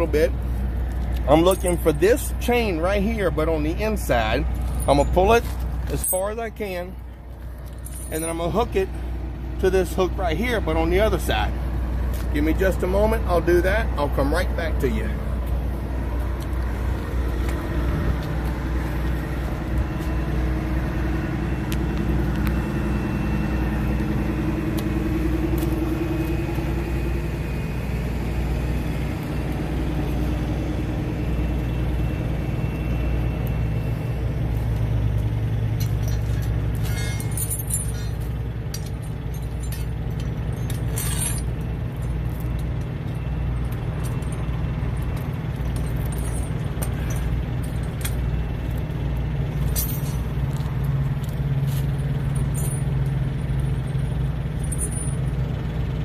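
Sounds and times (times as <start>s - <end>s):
diesel engine idling: 0.0s - 56.0s
tire chain links rattling: 0.0s - 56.0s.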